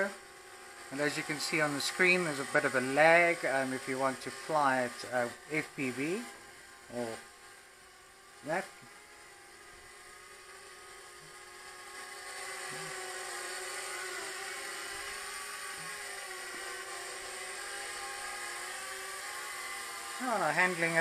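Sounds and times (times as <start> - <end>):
quadcopter propellers whirring: 0.0 - 21.0.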